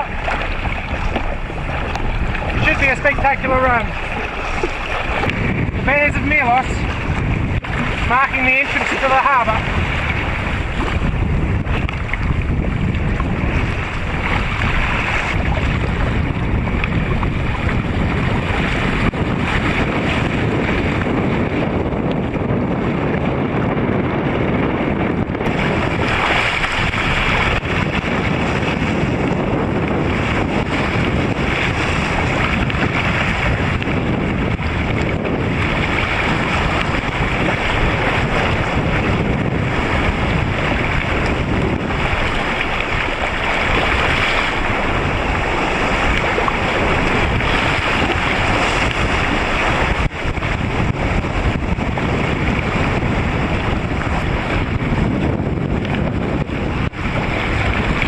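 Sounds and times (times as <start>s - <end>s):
waves rushing and splashing: 0.0s - 58.0s
wind buffeting microphone: 0.0s - 58.0s.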